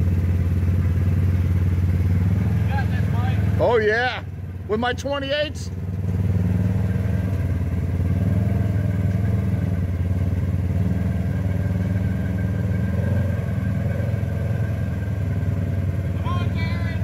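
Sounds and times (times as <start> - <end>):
utility vehicle engine idling: 0.0 - 17.0.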